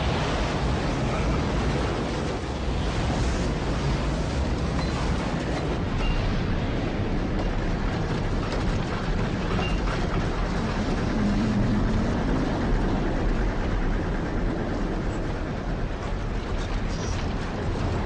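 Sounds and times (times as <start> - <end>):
rough surf: 0.0 - 18.0
storm wind roaring: 0.0 - 18.0.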